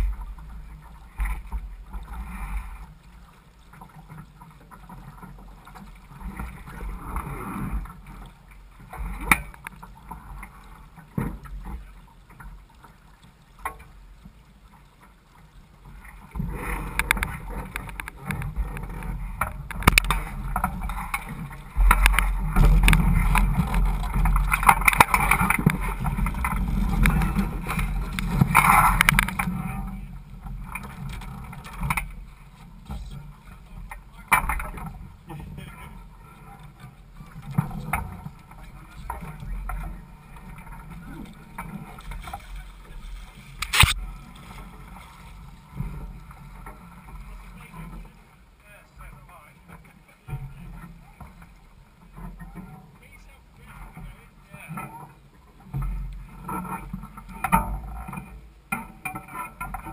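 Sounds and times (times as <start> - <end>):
water lapping against hull: 0.0 - 59.9.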